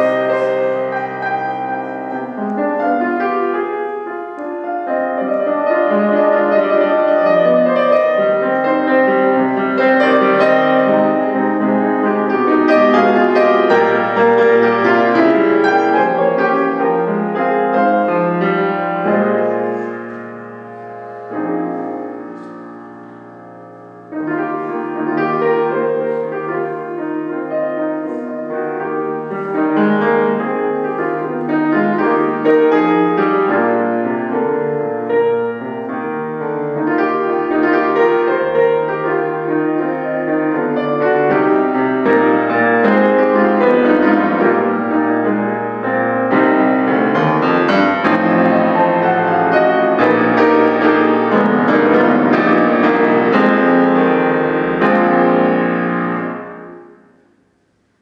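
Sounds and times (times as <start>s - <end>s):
solo piano classical piece: 0.0s - 58.0s.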